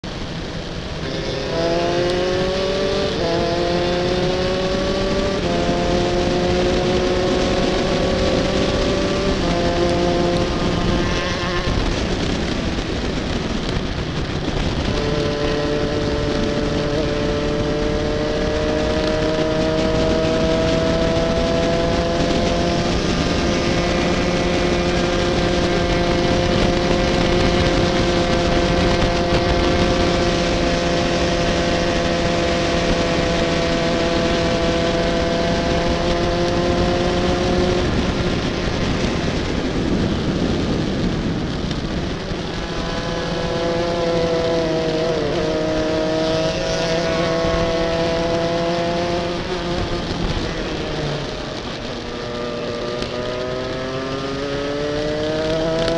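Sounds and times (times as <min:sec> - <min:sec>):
kart engine at high revs: 0:00.0 - 0:55.9.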